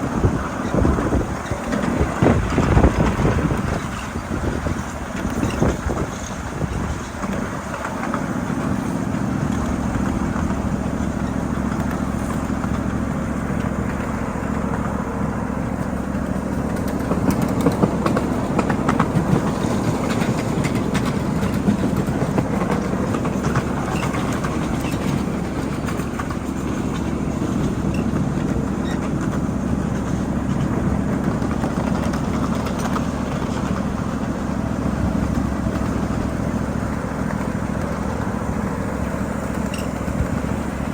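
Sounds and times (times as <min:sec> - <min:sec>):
miniature train mechanical hum: 0:00.0 - 0:40.9
wheels clicking over rail joints: 0:00.0 - 0:40.9.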